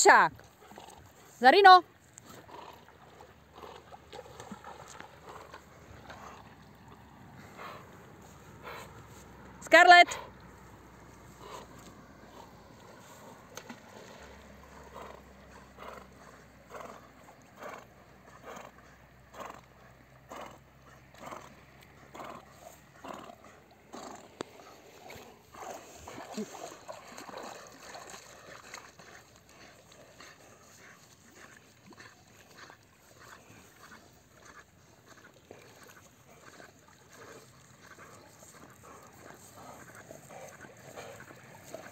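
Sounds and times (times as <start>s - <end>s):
dog breathing hard while swimming: 2.0s - 41.9s.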